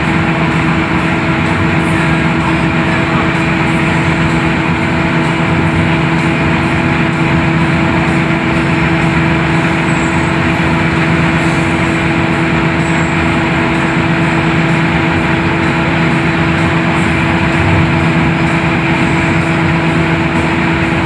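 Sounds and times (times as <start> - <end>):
diesel engine droning: 0.0 - 21.0
tyre and road noise: 0.0 - 21.0.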